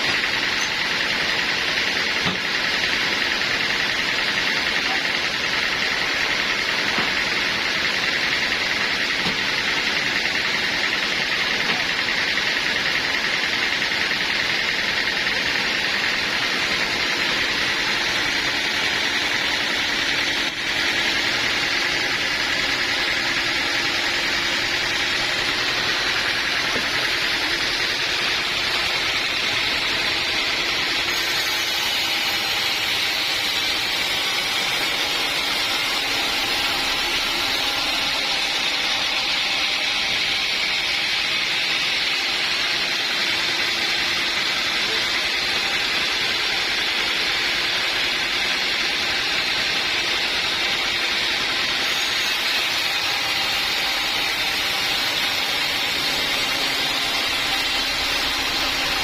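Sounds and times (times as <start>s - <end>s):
portable sawmill running: 0.0s - 59.0s.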